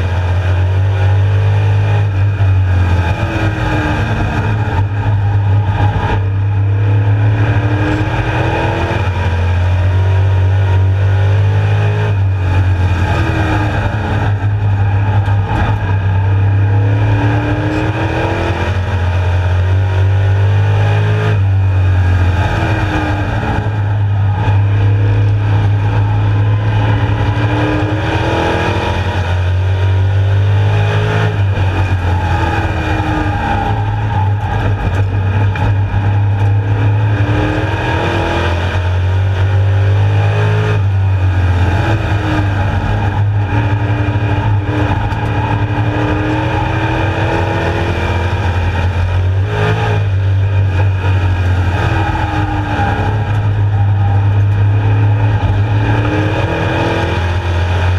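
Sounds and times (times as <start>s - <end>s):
race car engine running hard: 0.0s - 57.9s
road and wind noise: 0.0s - 57.9s.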